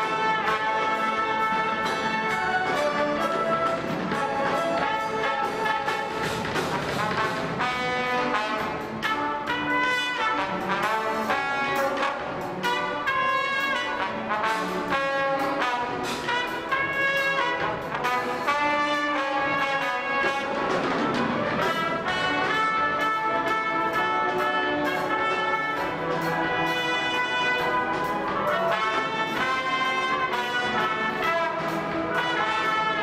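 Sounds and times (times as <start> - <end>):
brass section chords: 0.0 - 33.0
percussion hits: 0.0 - 33.0.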